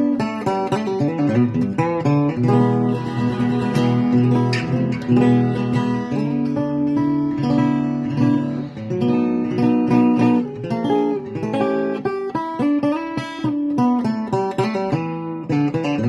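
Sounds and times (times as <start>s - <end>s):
guitar strumming chords: 0.0s - 16.0s.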